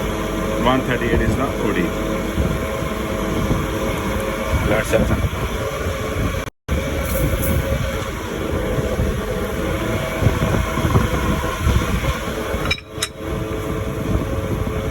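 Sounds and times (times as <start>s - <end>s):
lathe mechanical rumble: 0.0s - 14.9s.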